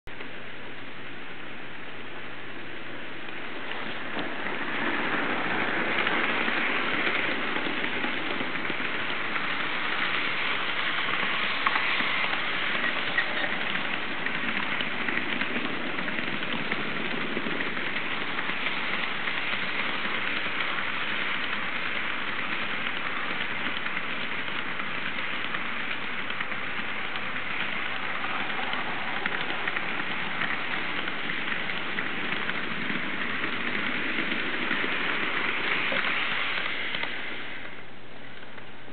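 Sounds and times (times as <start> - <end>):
model train wheels rattling on rails: 2.4 - 38.9.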